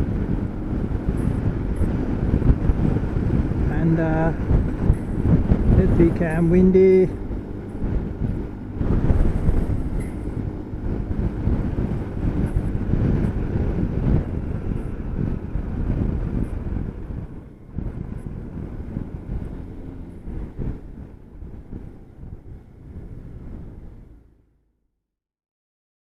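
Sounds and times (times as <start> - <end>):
scooter riding noise: 0.0 - 24.2
wind rumbling on microphone: 0.0 - 24.4.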